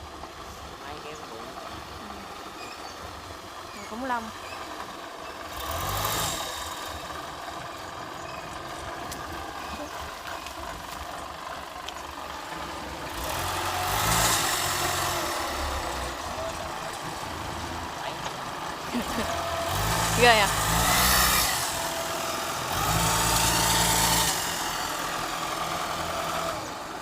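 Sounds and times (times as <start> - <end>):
combine harvester diesel engine: 0.0 - 27.0.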